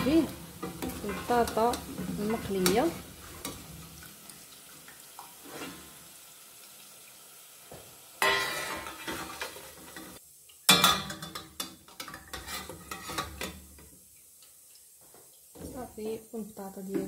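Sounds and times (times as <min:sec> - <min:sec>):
fried potatoes sizzling in oil: 0:00.0 - 0:17.0.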